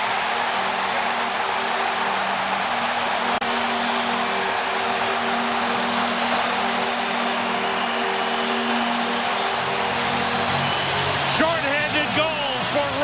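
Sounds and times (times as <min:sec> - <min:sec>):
arena crowd cheering: 0:00.0 - 0:13.0.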